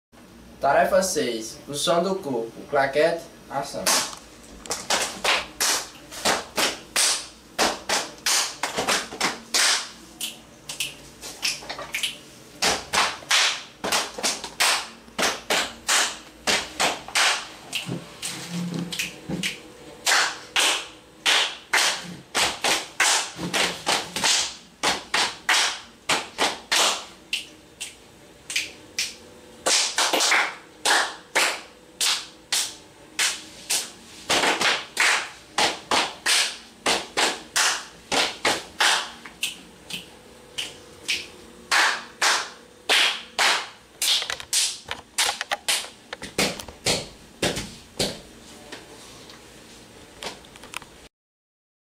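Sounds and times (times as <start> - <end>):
hand claps and slaps: 3.8 - 48.2.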